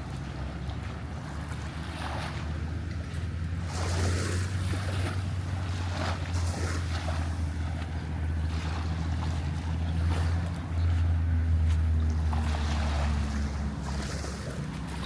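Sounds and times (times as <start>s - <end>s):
boat engine humming: 0.0s - 15.0s
water lapping: 0.0s - 15.0s.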